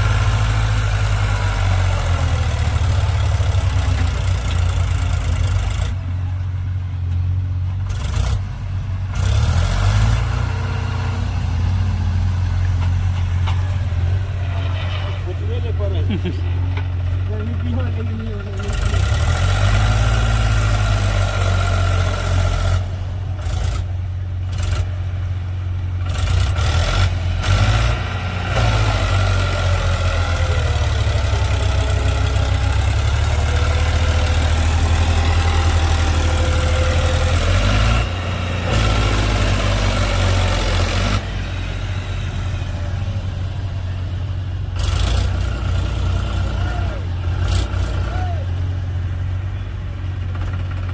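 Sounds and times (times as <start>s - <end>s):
diesel engine revving under load: 0.0s - 50.9s.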